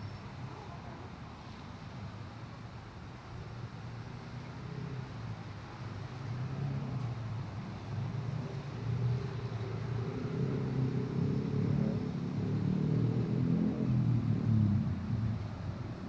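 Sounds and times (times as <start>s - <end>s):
car traffic rumble: 0.0s - 16.0s.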